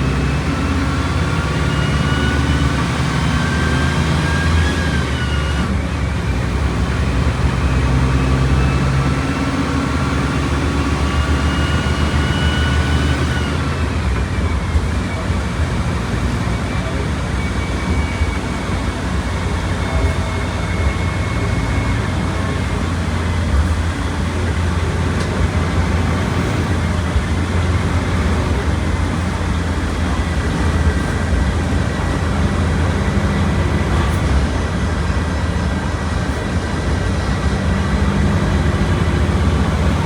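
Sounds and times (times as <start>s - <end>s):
bus diesel engine running: 0.0s - 40.0s
road noise: 0.0s - 40.0s.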